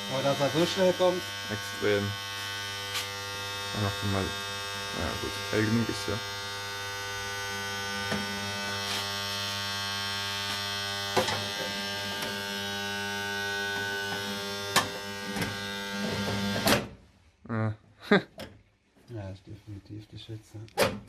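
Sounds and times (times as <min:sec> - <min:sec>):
contactor buzzing electrical hum: 0:00.0 - 0:17.0.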